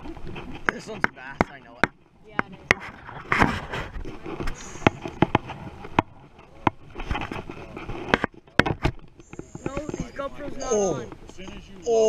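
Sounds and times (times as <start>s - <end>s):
knocks and scraping on camera: 0.0s - 11.8s.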